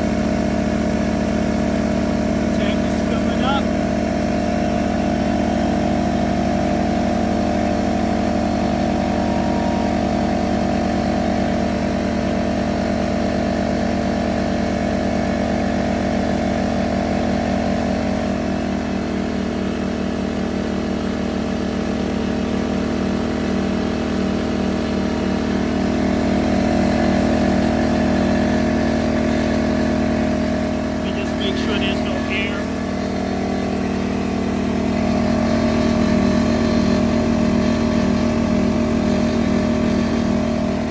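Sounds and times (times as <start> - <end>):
air compressor pump running: 0.0 - 20.9, 21.7 - 40.9
generator engine running: 0.0 - 40.9.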